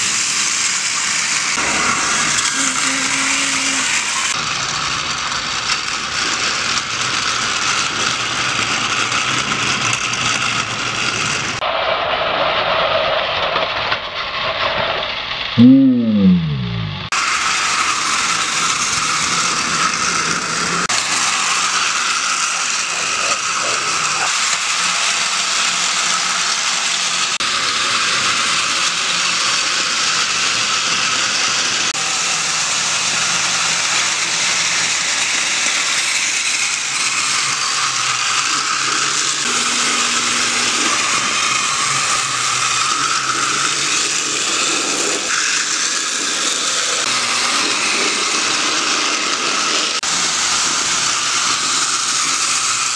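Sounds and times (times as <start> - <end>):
toy train motors whirring: 0.0 - 11.6, 17.2 - 52.9.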